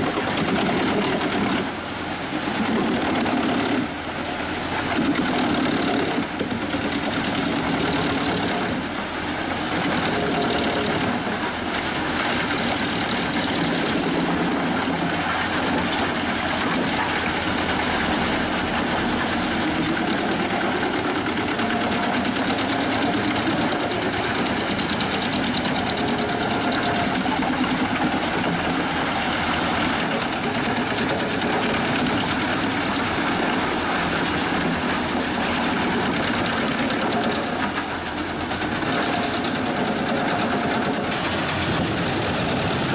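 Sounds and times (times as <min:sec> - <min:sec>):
tractor engine: 0:00.0 - 0:42.9
wood chipper running: 0:00.0 - 0:42.9.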